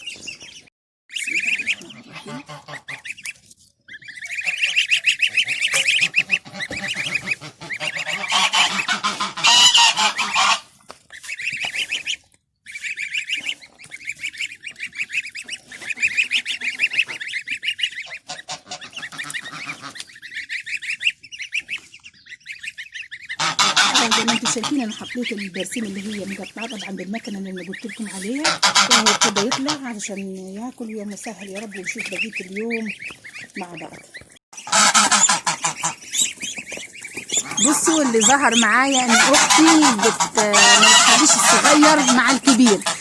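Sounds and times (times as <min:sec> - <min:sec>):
ducks calling: 0:00.0 - 0:43.0
geese honking: 0:00.0 - 0:43.0.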